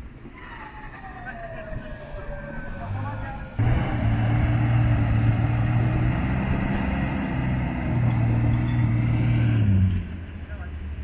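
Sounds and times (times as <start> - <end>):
off-road vehicle engine under load: 1.6 - 11.0.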